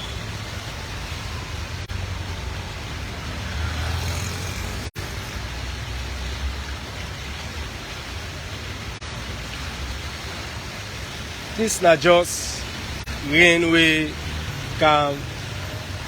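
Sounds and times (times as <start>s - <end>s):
low traffic rumble: 0.0s - 16.0s
rainwater running in a gutter: 0.0s - 16.0s.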